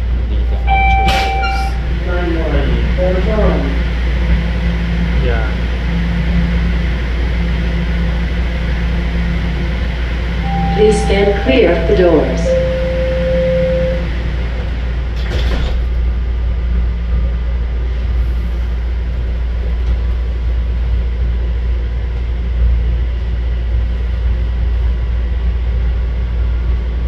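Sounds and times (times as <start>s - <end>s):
train clatter: 0.0s - 22.9s
subway train rumbling: 0.0s - 27.0s.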